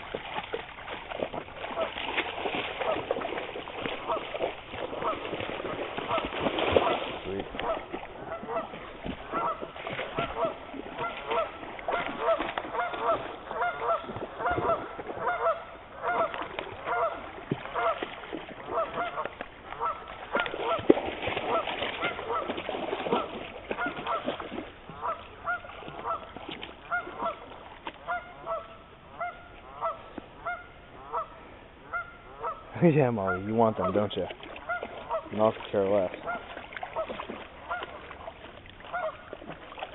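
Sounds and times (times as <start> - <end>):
geese honking: 1.7 - 2.0, 2.8 - 3.1, 3.9 - 20.9, 21.5 - 39.4.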